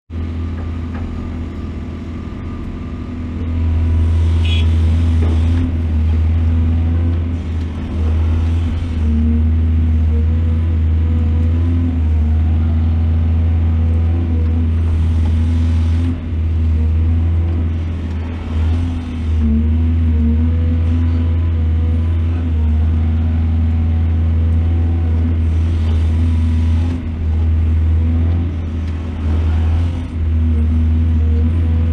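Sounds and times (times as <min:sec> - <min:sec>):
excavator diesel engine humming: 0:00.1 - 0:31.9.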